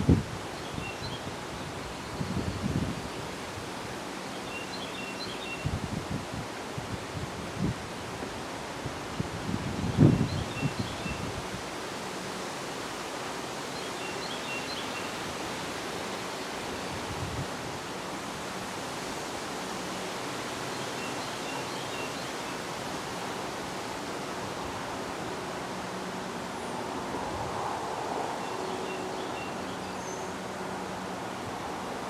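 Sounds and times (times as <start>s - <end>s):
wind blowing through trees: 0.0s - 32.0s.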